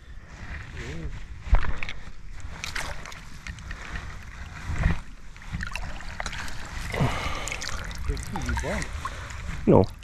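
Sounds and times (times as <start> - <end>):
wind rumble on microphone: 0.0 - 10.0
water splashing and sloshing: 0.4 - 10.0.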